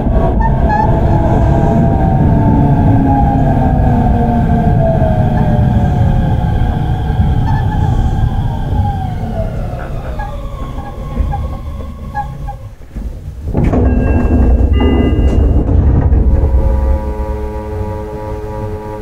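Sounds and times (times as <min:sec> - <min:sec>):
train inverter whine: 0:00.0 - 0:19.0
train wheels rumbling: 0:00.0 - 0:19.0.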